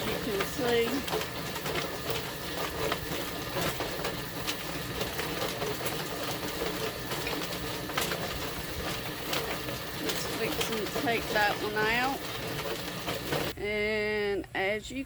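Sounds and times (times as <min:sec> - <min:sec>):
motor hum: 0:00.0 - 0:13.8.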